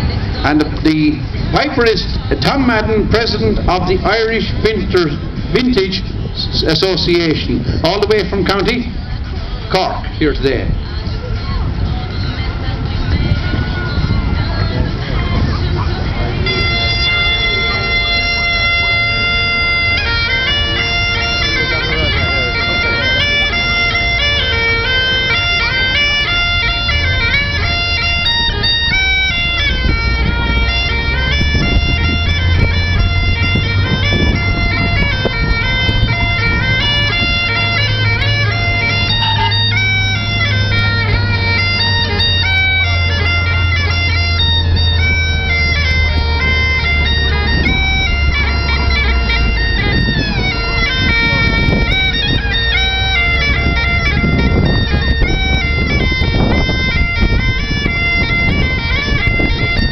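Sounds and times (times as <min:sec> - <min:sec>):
bagpipes playing: 0:00.0 - 0:59.9.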